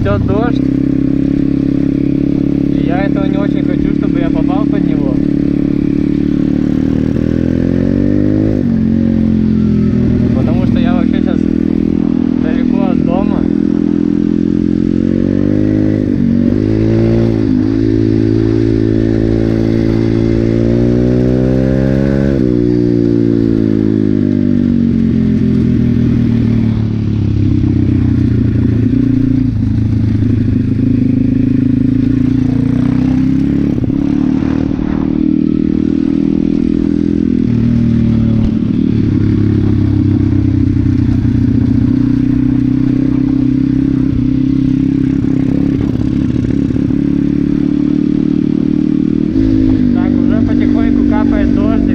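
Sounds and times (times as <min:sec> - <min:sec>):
motorbike engine revving: 0:00.0 - 0:51.9.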